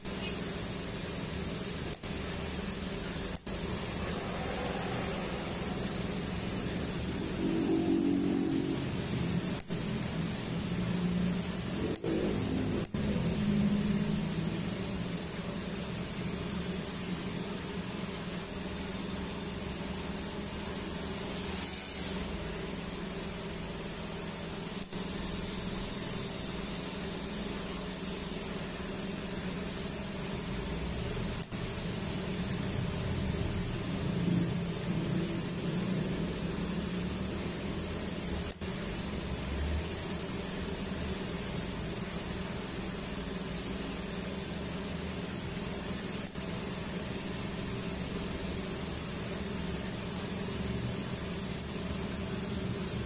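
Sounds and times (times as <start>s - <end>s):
welding machine humming: 0.0s - 53.0s.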